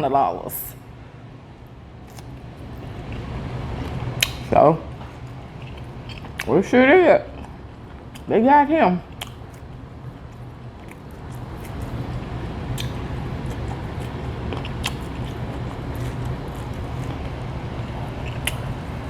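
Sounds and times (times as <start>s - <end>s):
steady low rumble: 0.0s - 19.0s
chewing and mouth clicks: 2.0s - 6.6s, 7.3s - 8.3s, 9.0s - 19.0s.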